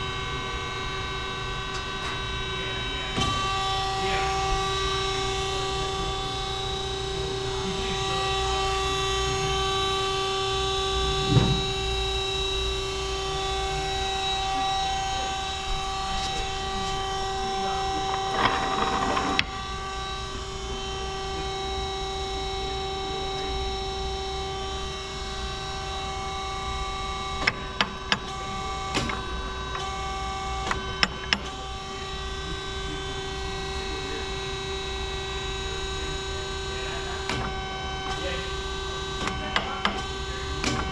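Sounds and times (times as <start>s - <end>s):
band saw hum and whine: 0.0s - 40.9s.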